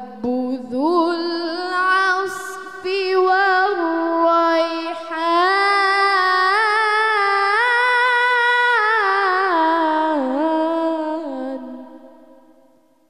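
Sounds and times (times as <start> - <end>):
girl reciting melodically: 0.0 - 12.3.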